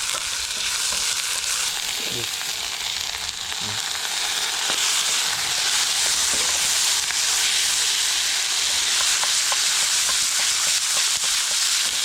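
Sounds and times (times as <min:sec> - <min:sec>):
onions sizzling in hot oil: 0:00.0 - 0:12.0
small crackles of frying: 0:00.0 - 0:12.0.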